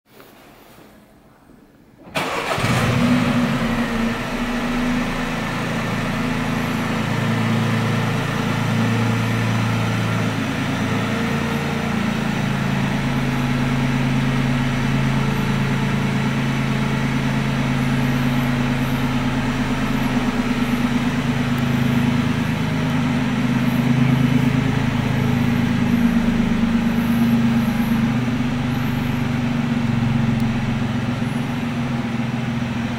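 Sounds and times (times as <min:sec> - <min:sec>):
car engine starting and idling: 0:02.0 - 0:32.9.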